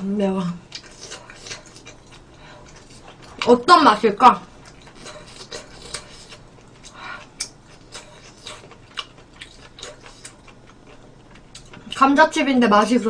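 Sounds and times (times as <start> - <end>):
chewing noises: 0.7 - 12.1.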